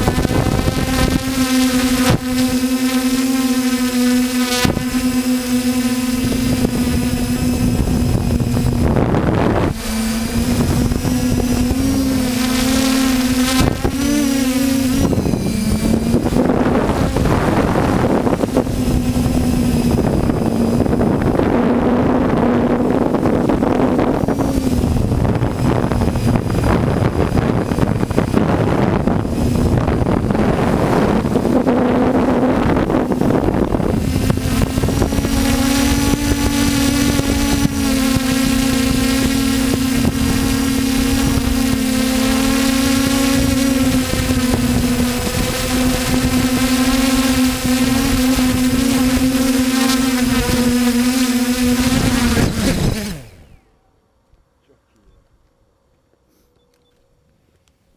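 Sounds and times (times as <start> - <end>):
steady rushing noise: 0.0 - 53.6
drone motors buzzing: 0.0 - 53.8.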